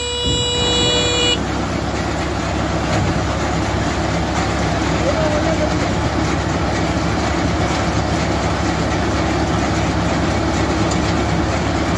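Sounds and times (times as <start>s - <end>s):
tractor and baler running: 0.0s - 11.9s.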